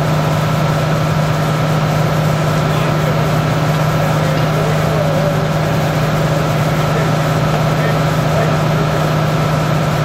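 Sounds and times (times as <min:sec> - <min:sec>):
engine droning steadily: 0:00.0 - 0:10.0.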